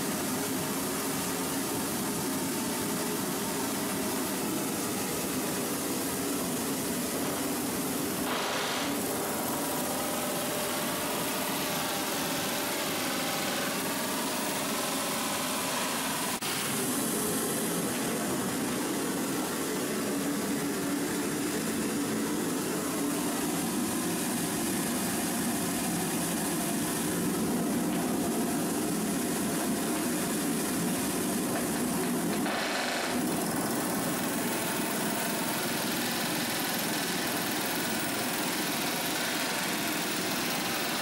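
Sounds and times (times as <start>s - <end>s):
industrial machinery noise: 0.0s - 41.0s.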